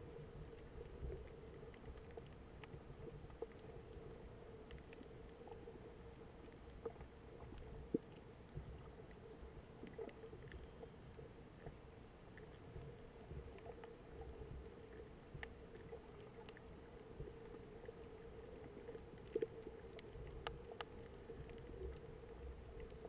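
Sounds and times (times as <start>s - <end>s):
constant hum: 0.0s - 23.0s
faint clicks and crackles: 0.0s - 23.0s
muffled underwater rumble: 0.0s - 23.0s.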